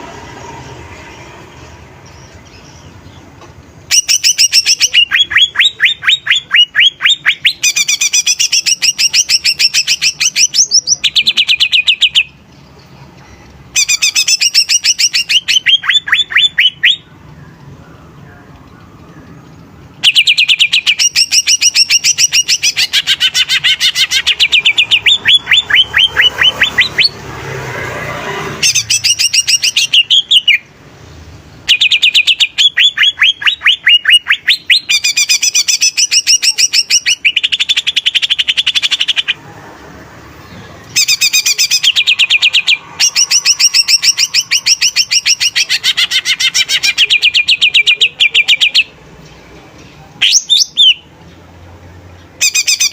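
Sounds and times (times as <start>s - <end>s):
bird singing: 1.0s - 27.4s, 28.4s - 30.8s, 31.5s - 39.4s, 40.4s - 51.5s.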